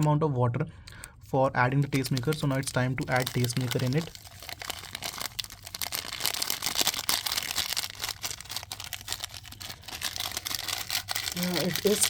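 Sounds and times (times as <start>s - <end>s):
plastic sachet crinkling: 0.9s - 12.0s.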